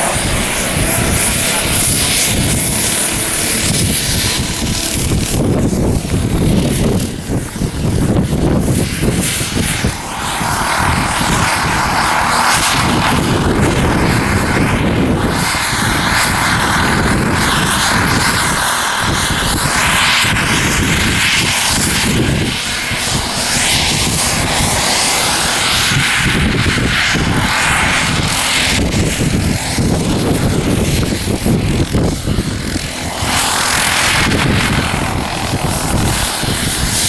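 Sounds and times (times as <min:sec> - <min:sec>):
model helicopter rotor drone: 0:00.0 - 0:37.0.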